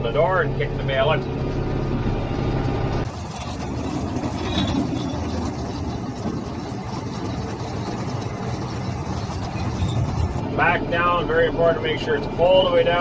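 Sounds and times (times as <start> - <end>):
round baler working: 0.0 - 13.0
tractor engine running: 0.0 - 13.0.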